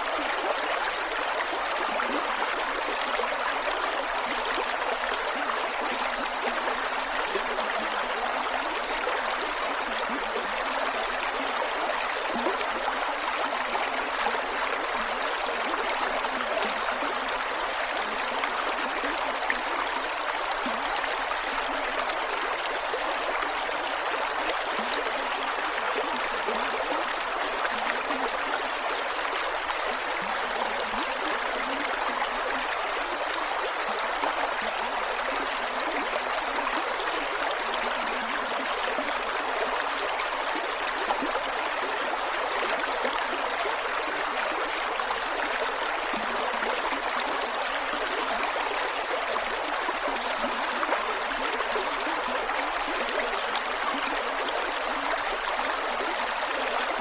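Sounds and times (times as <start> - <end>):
creek running over rocks: 0.0 - 57.0.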